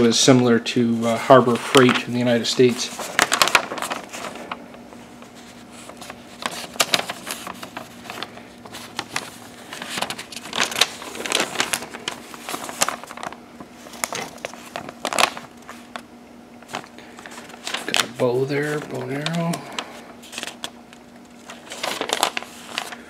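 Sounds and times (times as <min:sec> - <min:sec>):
paper pages rustling: 0:01.0 - 0:23.0.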